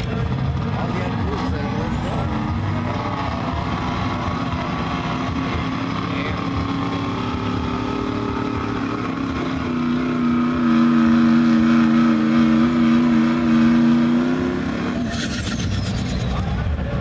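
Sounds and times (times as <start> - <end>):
diesel truck engine revving high: 0.0 - 17.0.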